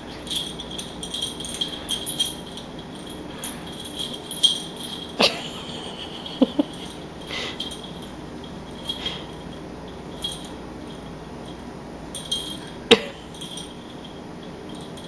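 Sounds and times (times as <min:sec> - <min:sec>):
string toy jingling: 0:00.0 - 0:15.0.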